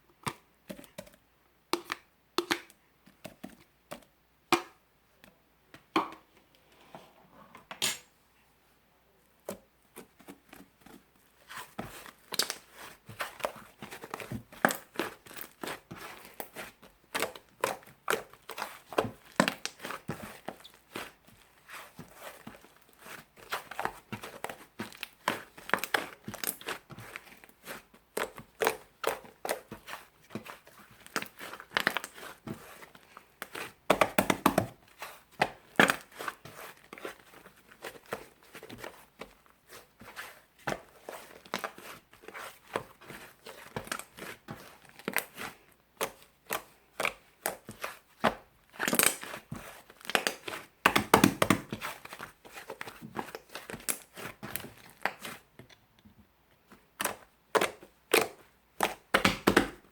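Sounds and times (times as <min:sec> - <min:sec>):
crinkling and crackling by hand: 0:09.2 - 0:59.9.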